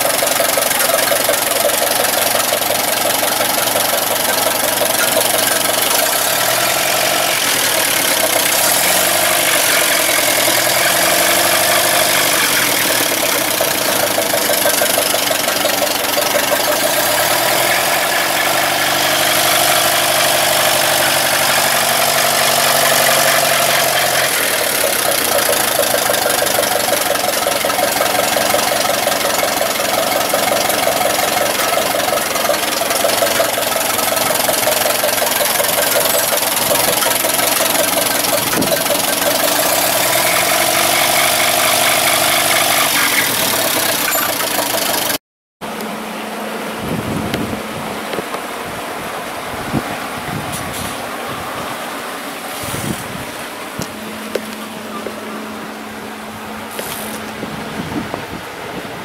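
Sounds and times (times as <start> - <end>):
petrol engine idling: 0.0 - 59.0
water pump noise: 0.0 - 59.0.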